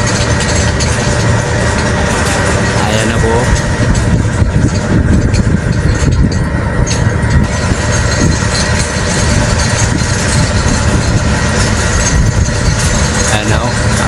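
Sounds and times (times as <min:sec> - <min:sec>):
heavy diesel machine running: 0:00.0 - 0:14.0.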